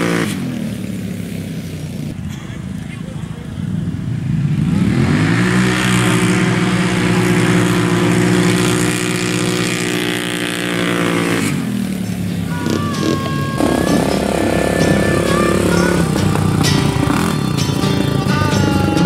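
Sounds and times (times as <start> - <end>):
atv engines at full throttle: 0.0 - 19.0.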